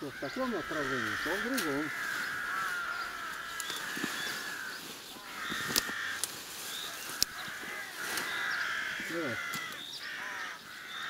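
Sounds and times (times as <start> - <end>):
branches cracking: 0.0 - 11.0
harsh bird calls: 0.0 - 11.0.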